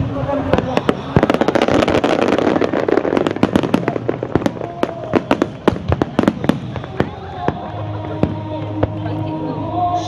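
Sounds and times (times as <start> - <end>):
fireworks popping and crackling: 0.0 - 9.2.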